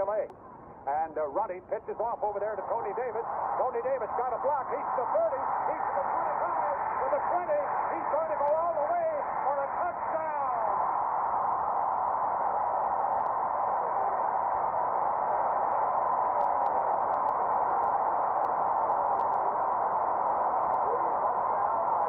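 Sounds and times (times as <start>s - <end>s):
stadium crowd cheering over radio: 0.0s - 0.3s, 0.9s - 22.0s.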